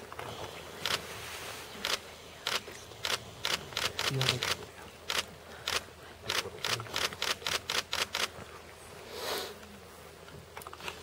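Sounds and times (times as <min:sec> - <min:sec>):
soft rush of noise: 0:00.0 - 0:11.0.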